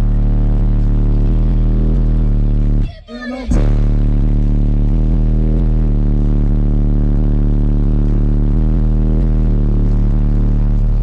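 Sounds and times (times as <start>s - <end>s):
deep bass from car subwoofers: 0.0s - 11.0s.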